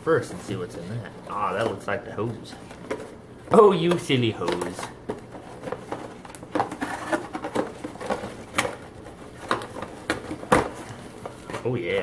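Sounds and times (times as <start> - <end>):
cardboard rustling: 0.2 - 12.0.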